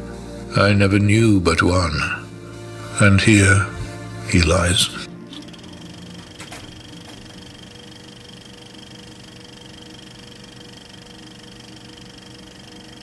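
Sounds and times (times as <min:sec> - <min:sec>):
drone of held tones: 0:02.1 - 0:13.0.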